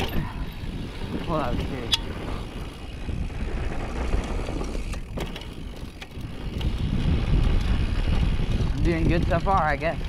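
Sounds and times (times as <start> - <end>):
bike clicks and rattles: 0.0 - 10.0
bike tyres rolling on dirt: 0.0 - 10.0
wind on microphone: 0.0 - 10.0.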